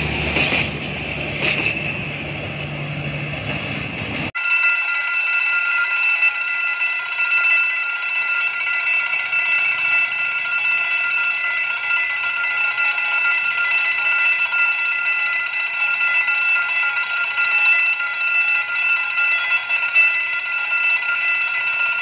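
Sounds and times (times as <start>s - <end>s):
level crossing warning bell: 4.3s - 22.0s.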